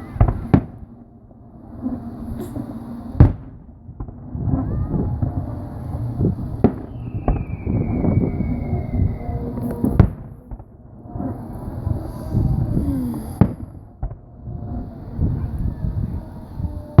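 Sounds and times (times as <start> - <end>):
falling firework whistle: 0.0 - 0.8, 1.8 - 17.0
firework bangs: 0.0 - 0.9, 1.8 - 17.0
firework crackling: 0.0 - 1.0, 1.6 - 17.0.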